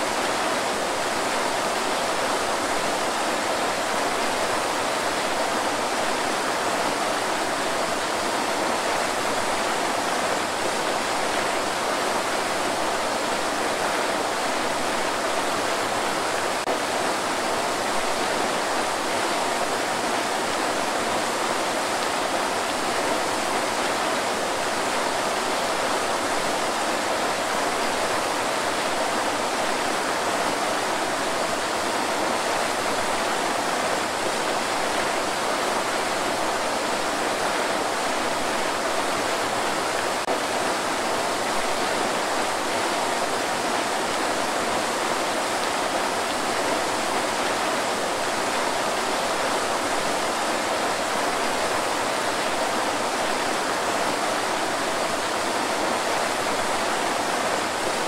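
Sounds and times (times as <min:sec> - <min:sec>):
waterfall rushing into pool: 0:00.0 - 0:58.0.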